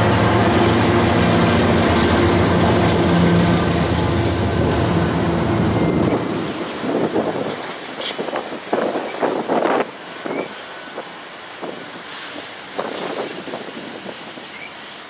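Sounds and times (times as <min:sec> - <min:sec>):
train clanks: 0:00.0 - 0:15.0
train wheels rumbling on rails: 0:00.0 - 0:15.0.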